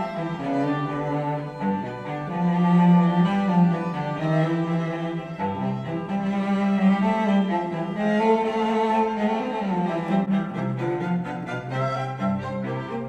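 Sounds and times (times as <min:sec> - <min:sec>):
classical music with bowed strings: 0:00.0 - 0:13.0.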